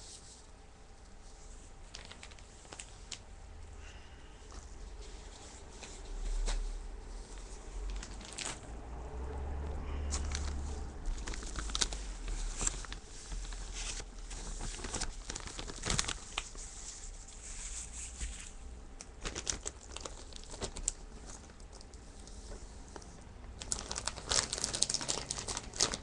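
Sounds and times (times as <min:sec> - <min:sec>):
plastic bag crinkling: 0:01.7 - 0:08.8, 0:09.9 - 0:26.0.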